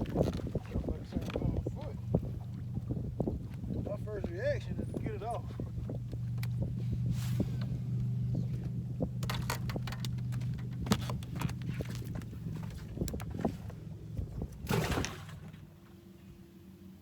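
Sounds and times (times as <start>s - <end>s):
knocks and clicks on boat: 0.0s - 16.0s
boat motor humming: 0.0s - 17.0s.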